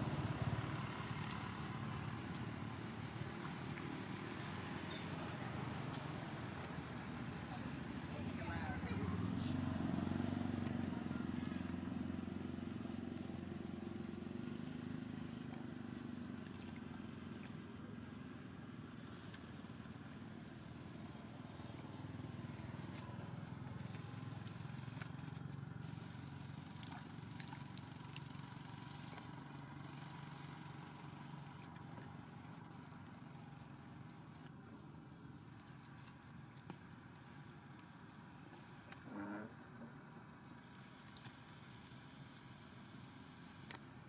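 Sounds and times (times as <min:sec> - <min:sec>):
distant engine drone: 0:00.0 - 0:44.0.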